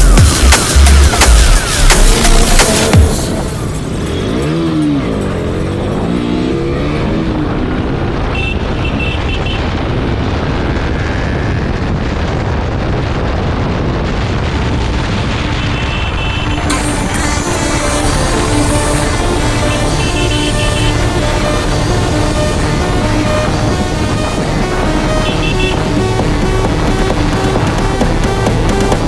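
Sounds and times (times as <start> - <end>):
motorcycle engine revving: 0.0 - 13.8, 15.8 - 29.0
wind and road noise: 0.0 - 29.0.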